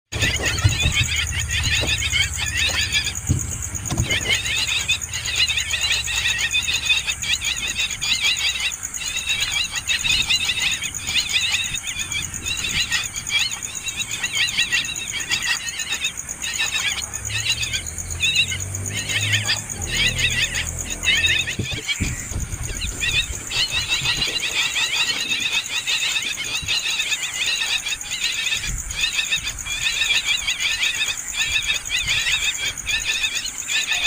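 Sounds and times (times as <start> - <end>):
nestling birds chirping: 0.1 - 34.0.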